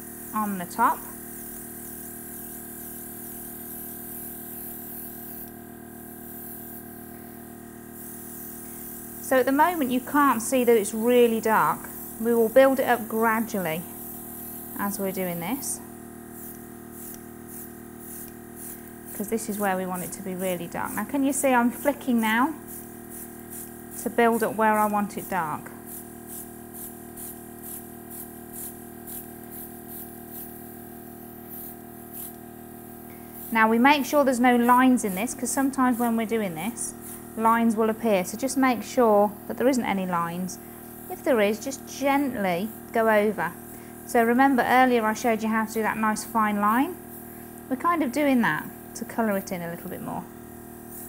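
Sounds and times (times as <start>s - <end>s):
airbrush hissing: 0.0s - 51.0s
small compressor humming: 0.0s - 51.0s.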